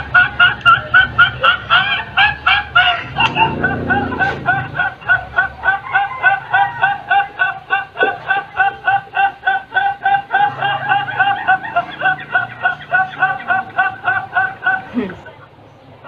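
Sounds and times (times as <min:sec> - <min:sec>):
man laughing: 0:00.0 - 0:15.4.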